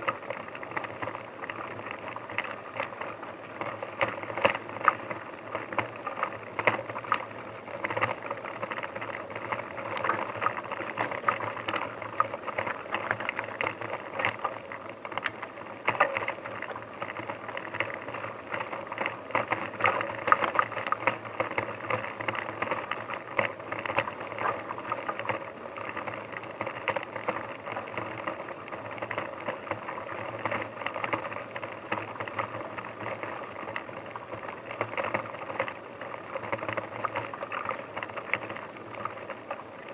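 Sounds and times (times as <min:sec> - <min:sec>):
bicycle rattling over rough ground: 0:00.0 - 0:39.9.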